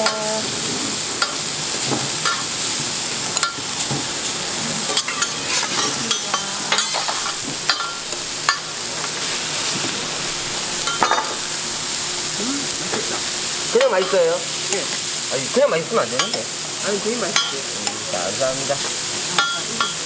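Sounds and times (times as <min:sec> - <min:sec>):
pork sizzling on griddle: 0:00.0 - 0:20.0.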